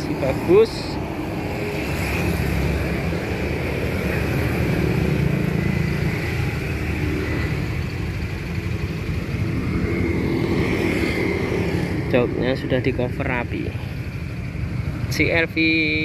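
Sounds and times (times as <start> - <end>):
traffic noise: 0.0 - 16.0
vehicle engine rumbling: 0.0 - 16.0.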